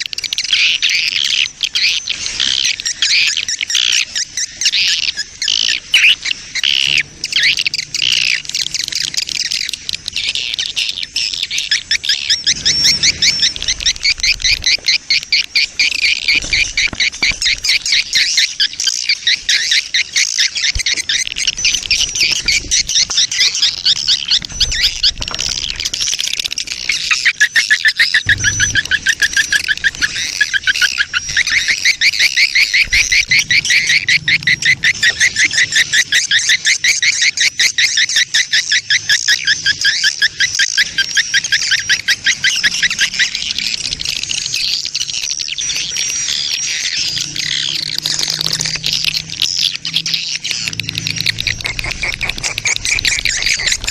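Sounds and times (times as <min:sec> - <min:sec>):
swiftlets twittering: 0:00.0 - 0:53.9.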